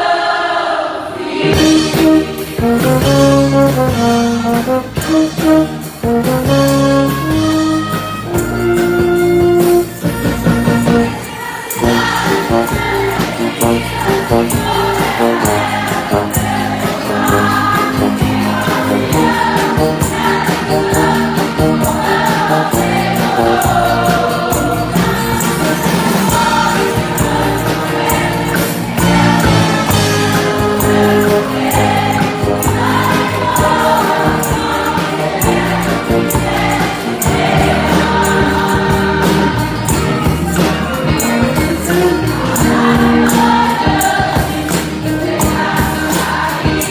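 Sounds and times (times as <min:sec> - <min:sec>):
choir singing a hymn: 0:00.0 - 0:08.5, 0:10.8 - 0:46.9
instrumental accompaniment: 0:01.2 - 0:46.9
steady percussive beat: 0:01.4 - 0:46.9.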